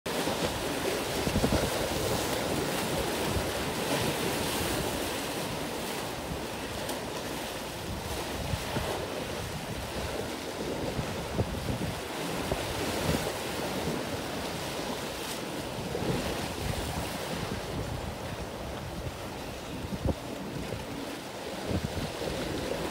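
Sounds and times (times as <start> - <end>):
choppy sea and surf: 0.0 - 22.9
wind buffeting microphone: 0.1 - 22.9.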